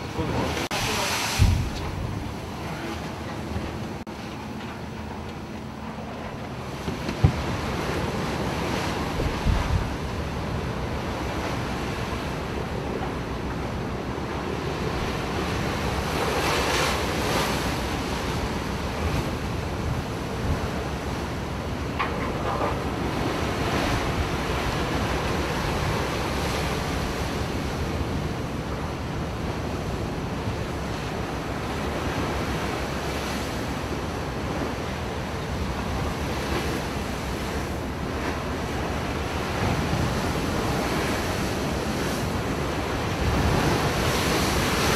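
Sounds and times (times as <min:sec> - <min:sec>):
storm wind on microphone: 0:00.0 - 0:04.1, 0:06.0 - 0:44.9
heavy waves breaking: 0:00.0 - 0:44.9.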